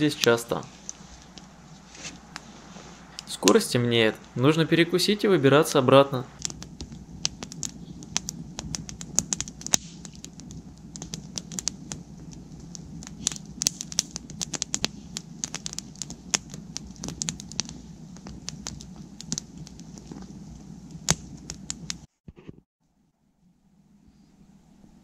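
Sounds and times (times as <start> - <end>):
campfire crackling: 0.0 - 22.1
low rush of fire: 0.0 - 22.1.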